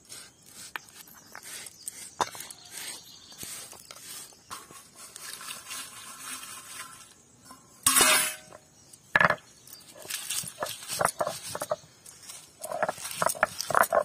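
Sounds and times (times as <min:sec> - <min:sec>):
dried chillies crackling: 0:00.0 - 0:07.2, 0:09.6 - 0:14.0
dry seeds rustling: 0:00.0 - 0:07.4, 0:08.9 - 0:14.0.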